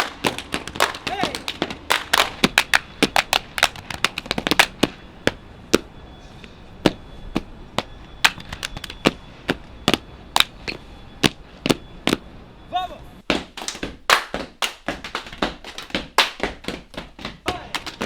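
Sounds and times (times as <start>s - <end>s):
rhythmic claps and slaps: 0.0s - 12.3s, 13.2s - 18.0s.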